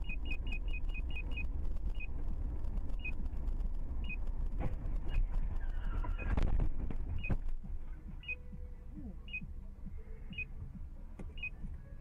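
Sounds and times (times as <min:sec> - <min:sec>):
faint low rumble: 0:00.0 - 0:12.0.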